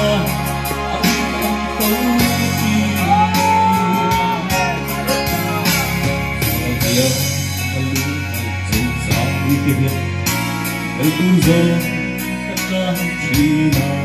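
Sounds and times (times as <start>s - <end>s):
christian song with guitar: 0.0s - 14.0s.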